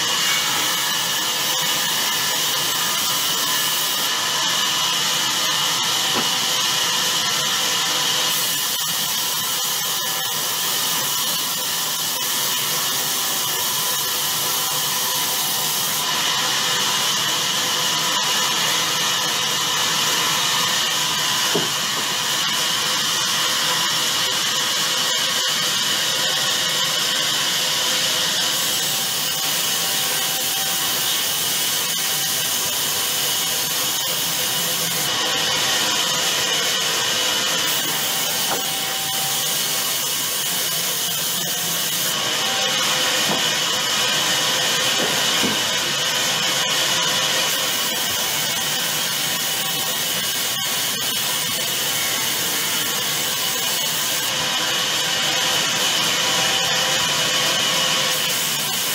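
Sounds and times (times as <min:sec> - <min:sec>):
band saw cutting log: 0:00.0 - 0:58.9.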